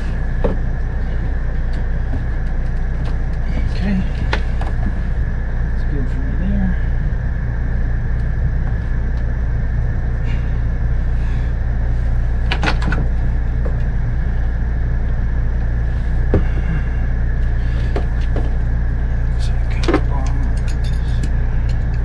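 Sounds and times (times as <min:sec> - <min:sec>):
machine hum with high whine: 0:00.0 - 0:22.0.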